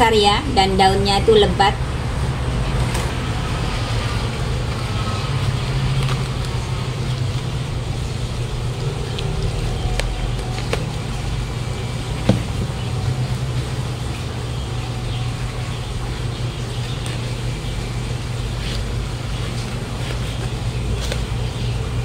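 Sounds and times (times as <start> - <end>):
urban traffic hum: 0.0 - 22.0.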